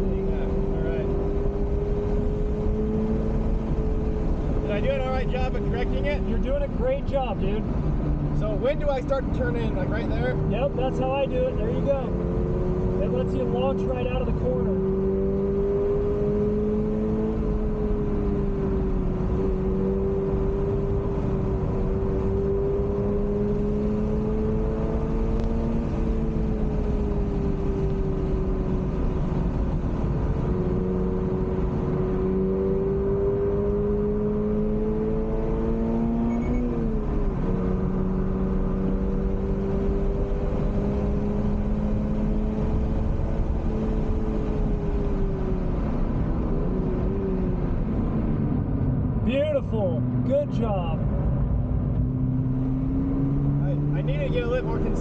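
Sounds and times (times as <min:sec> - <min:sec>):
car engine pulling hard: 0:00.0 - 0:55.0
road and tyre rumble: 0:00.0 - 0:55.0.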